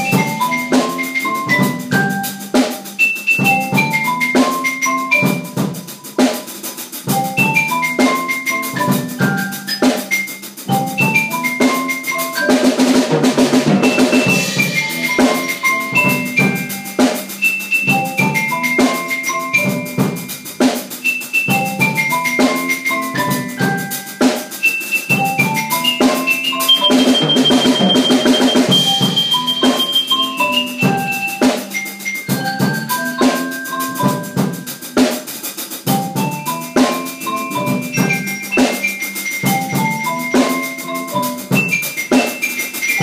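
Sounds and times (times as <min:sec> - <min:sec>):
drum fills: 0:00.0 - 0:43.0
drum kit groove: 0:00.0 - 0:43.0
marimba melody: 0:00.0 - 0:43.0.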